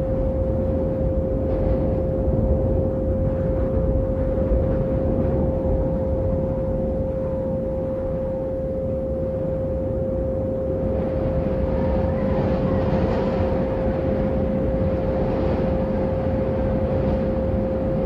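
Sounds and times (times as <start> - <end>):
low rushing noise drone: 0.0 - 18.0
steady sine tone: 0.0 - 18.0.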